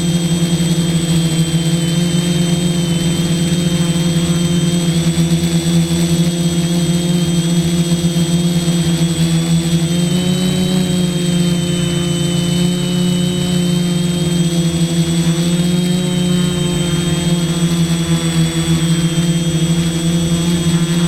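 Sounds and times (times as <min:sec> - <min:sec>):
quadcopter droning: 0:00.0 - 0:21.0.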